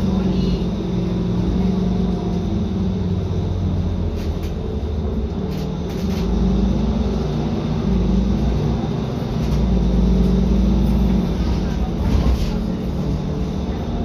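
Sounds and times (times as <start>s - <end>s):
bus engine running: 0.0s - 14.0s
road rumble: 0.0s - 14.0s.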